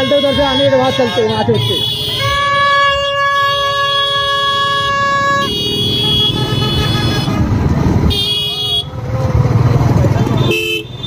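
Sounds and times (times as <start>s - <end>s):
vehicle horns honking: 0.0s - 9.0s, 10.2s - 11.0s
motorcycle engines rumbling: 0.0s - 11.0s
road noise: 0.0s - 11.0s.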